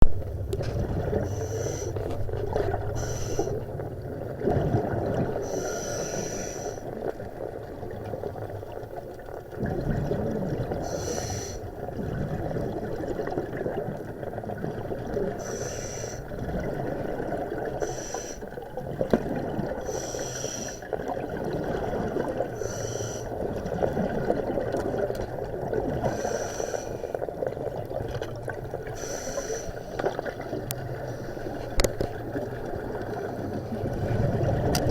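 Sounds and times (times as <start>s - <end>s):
water sloshing and splashing: 0.0s - 34.9s.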